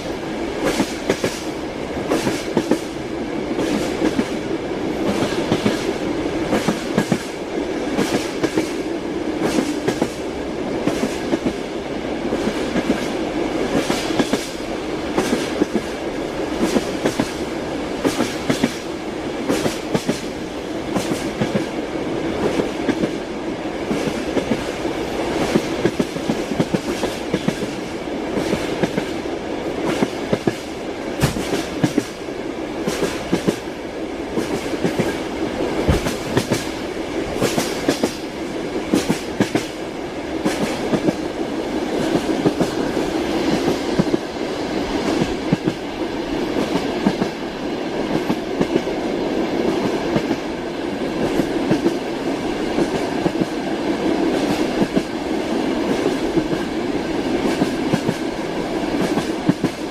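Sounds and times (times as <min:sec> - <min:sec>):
train carriage rumbling: 0:00.0 - 0:59.9.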